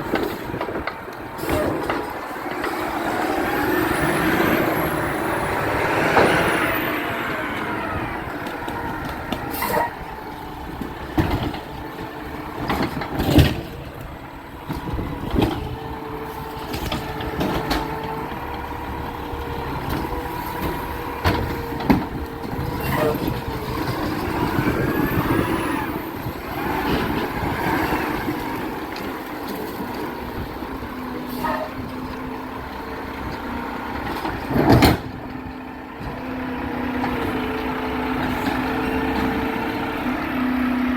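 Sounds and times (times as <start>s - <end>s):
garbage truck running: 0.0s - 40.9s.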